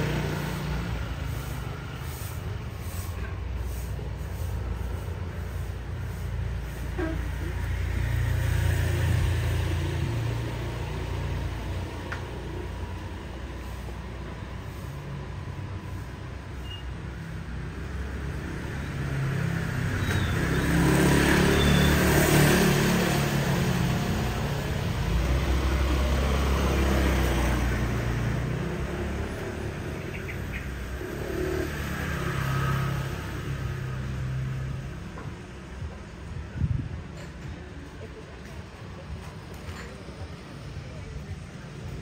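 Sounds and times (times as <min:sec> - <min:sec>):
motor scooters passing: 0:00.0 - 0:35.8.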